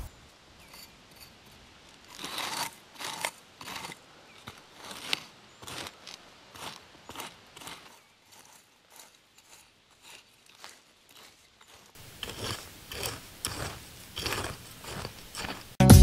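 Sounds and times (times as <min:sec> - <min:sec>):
hoe scraping dry soil: 0:00.0 - 0:15.9.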